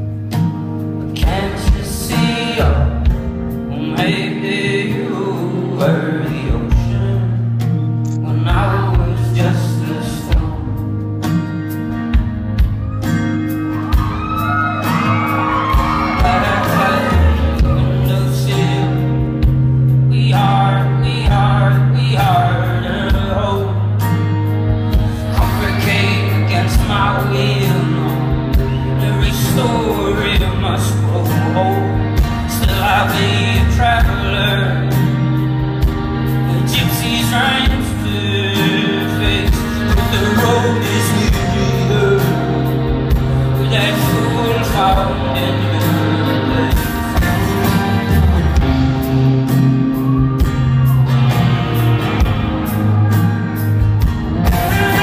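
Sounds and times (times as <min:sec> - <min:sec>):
low bass notes: 0:00.0 - 0:55.0
strummed acoustic guitar: 0:00.0 - 0:55.0
man singing: 0:01.0 - 0:11.4, 0:13.9 - 0:50.4, 0:54.4 - 0:55.0.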